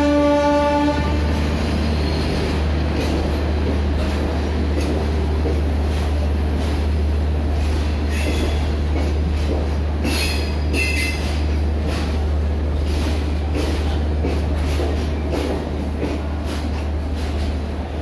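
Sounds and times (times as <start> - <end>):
train coaches rumbling past: 0.0 - 18.0.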